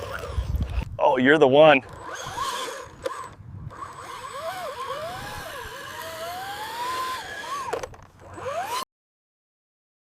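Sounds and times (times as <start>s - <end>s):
small electric motor whine: 0.0s - 8.8s.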